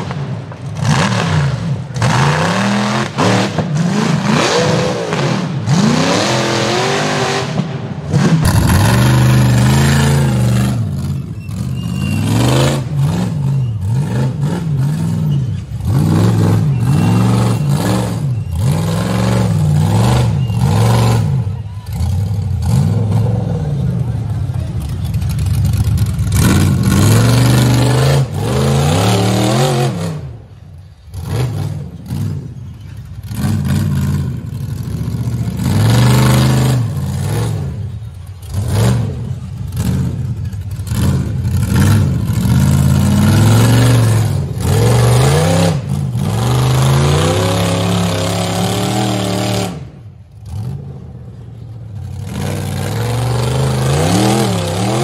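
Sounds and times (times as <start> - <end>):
buggy engine revving hard: 0.0 - 24.2, 26.0 - 32.6, 33.2 - 55.0.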